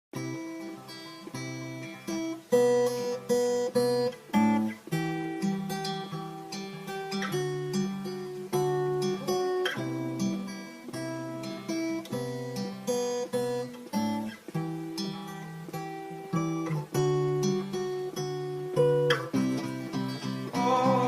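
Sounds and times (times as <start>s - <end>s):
acoustic guitar strumming chords: 0.2s - 21.0s.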